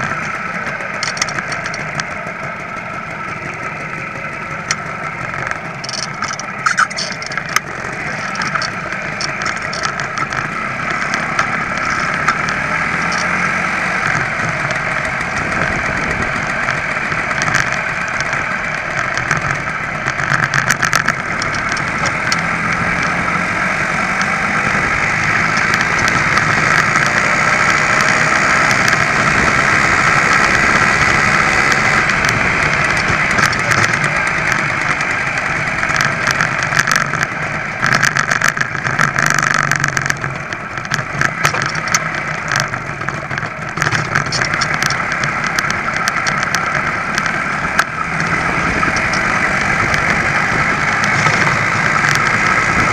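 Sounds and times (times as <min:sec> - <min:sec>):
sharp clicks: 0:00.0 - 0:23.4, 0:24.1 - 0:52.9
moped engine running: 0:00.0 - 0:52.9.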